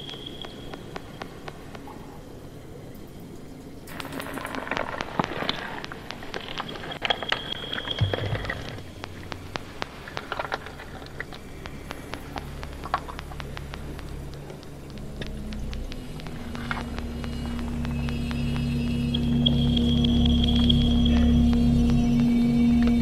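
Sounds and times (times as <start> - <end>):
electronic clicks and crackles: 0.0 - 23.0
low hum: 0.0 - 23.0.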